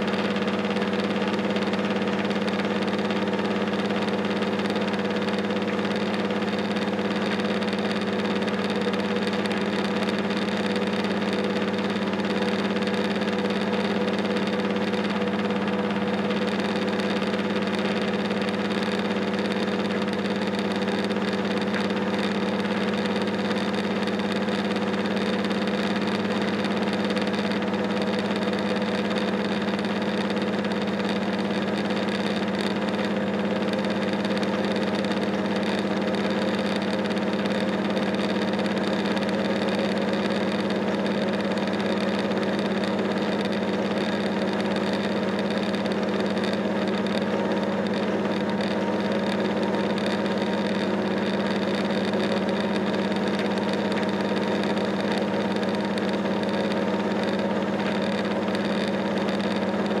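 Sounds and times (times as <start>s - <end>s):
railcar diesel engine drone: 0.0s - 60.0s.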